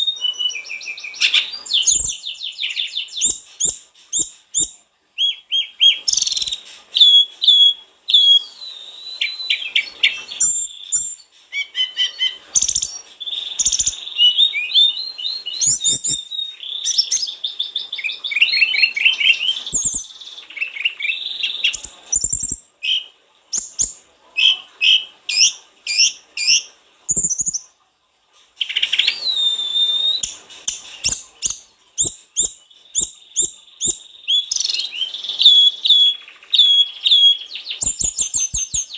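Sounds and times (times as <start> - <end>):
bird singing whistles and trills: 0.0 - 27.7, 28.6 - 38.9.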